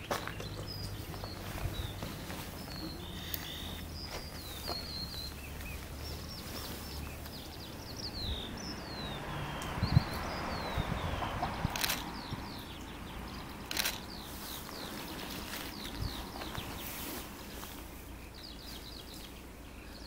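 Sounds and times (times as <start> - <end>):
distant diesel locomotive hum: 0.0 - 20.0
songbirds chirping: 0.0 - 20.0.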